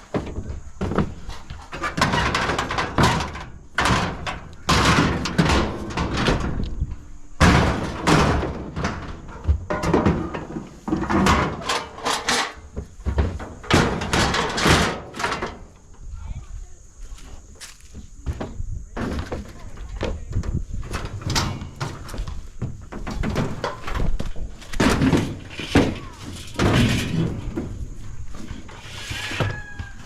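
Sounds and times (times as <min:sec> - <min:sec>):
scrap metal clanking and banging: 0:00.1 - 0:15.8, 0:20.8 - 0:30.0.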